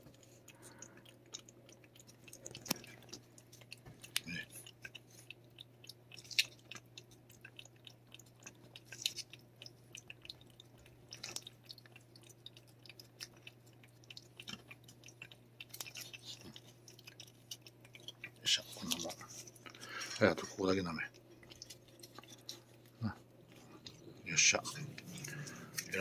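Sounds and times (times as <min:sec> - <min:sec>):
cat licking with mouth clicks: 0:00.0 - 0:20.4, 0:21.0 - 0:24.1.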